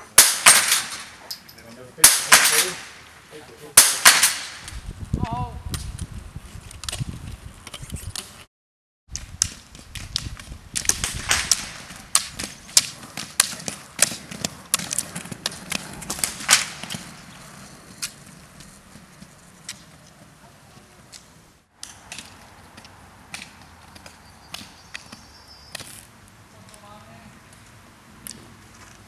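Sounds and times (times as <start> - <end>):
ski poles clicking on asphalt: 4.3 - 8.5, 9.1 - 29.0.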